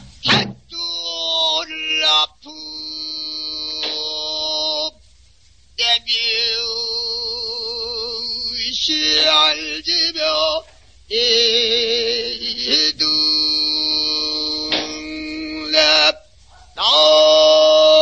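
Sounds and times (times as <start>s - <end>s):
solo voice singing with vibrato: 0.2s - 5.0s, 5.8s - 18.0s.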